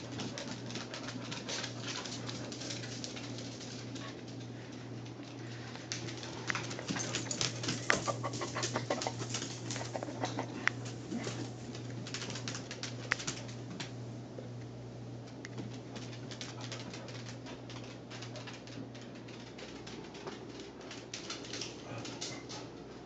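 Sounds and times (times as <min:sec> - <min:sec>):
dogs play growling: 0:00.0 - 0:13.6, 0:15.9 - 0:22.8
dog claws scrabbling on wooden floor: 0:00.0 - 0:14.0, 0:15.4 - 0:22.8.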